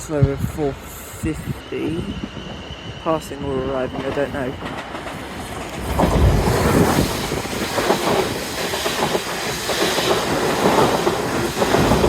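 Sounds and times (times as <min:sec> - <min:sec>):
train wheels clattering on rails: 0:02.2 - 0:12.0.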